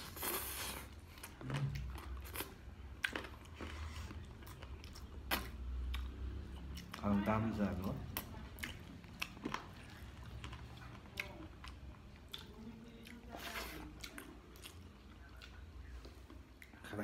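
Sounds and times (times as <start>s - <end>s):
person chewing rice: 0.0s - 17.0s.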